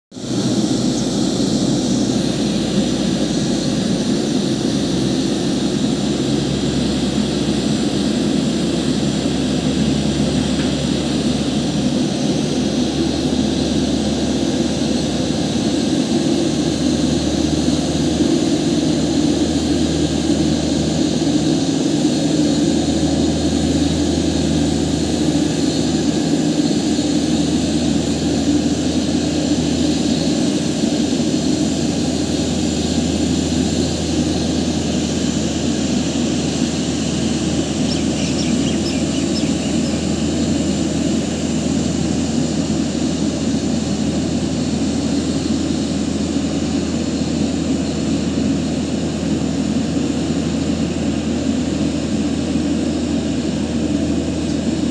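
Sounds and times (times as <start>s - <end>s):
jet engines running: 0.1s - 54.9s.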